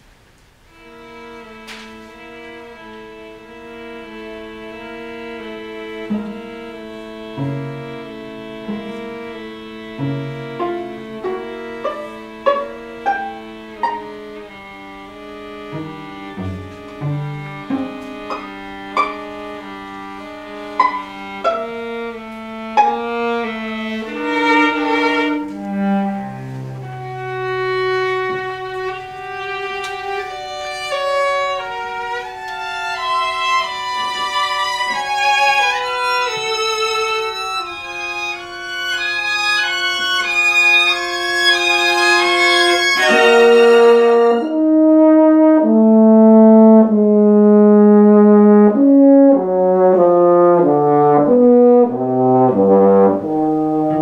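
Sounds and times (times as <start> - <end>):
atonal chamber music: 0.7 - 54.0.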